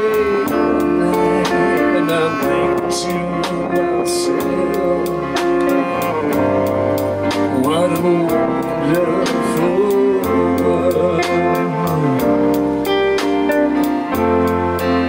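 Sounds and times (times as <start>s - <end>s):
guitar: 0.0s - 15.0s
music with steady beat: 0.0s - 15.0s.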